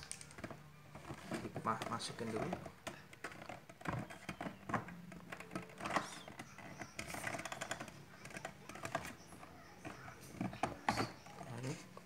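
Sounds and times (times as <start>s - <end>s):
plastic clicks and knocks: 0.0s - 11.5s.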